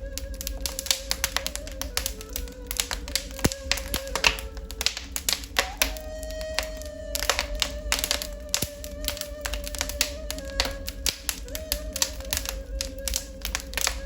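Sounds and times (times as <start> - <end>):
flute long held notes: 0.0 - 14.0
wood fire crackling and popping: 0.0 - 14.0.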